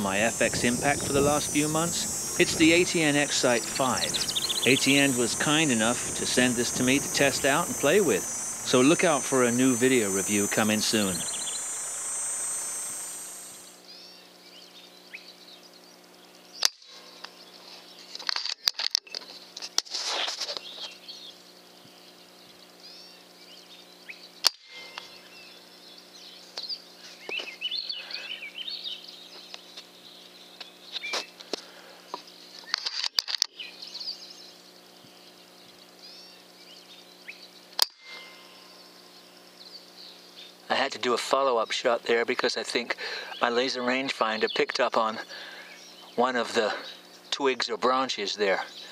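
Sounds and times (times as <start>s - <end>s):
birds chirping: 0.0s - 18.2s, 20.5s - 48.9s
faint steady hum: 0.0s - 18.3s, 18.9s - 48.9s.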